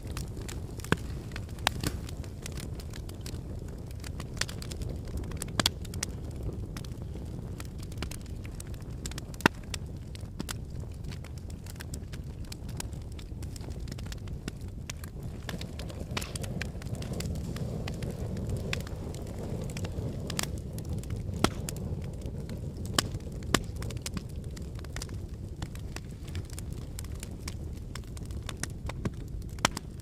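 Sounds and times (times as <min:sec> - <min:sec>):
wood logs burning: 0:00.0 - 0:30.0.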